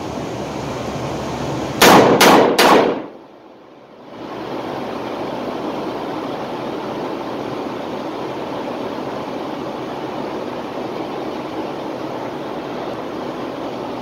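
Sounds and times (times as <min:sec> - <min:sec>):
ventilation rushing: 0:00.0 - 0:14.0.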